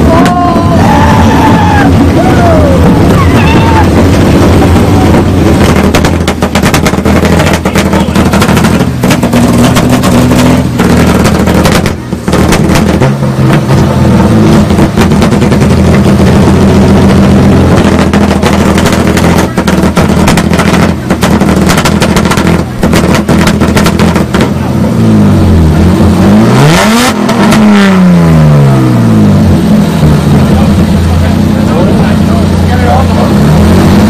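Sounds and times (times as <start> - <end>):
car engines revving hard: 0.0 - 34.0
exhaust crackles and pops: 0.0 - 34.0.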